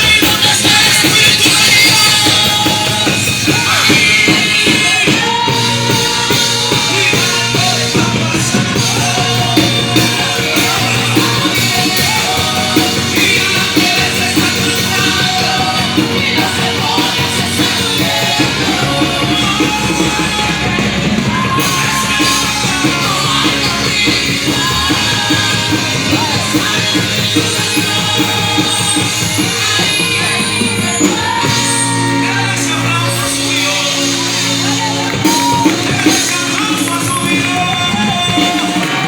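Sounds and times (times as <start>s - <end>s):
drum kit beat: 0.0s - 39.0s
person singing: 0.0s - 39.0s
rock band playing: 0.0s - 39.0s.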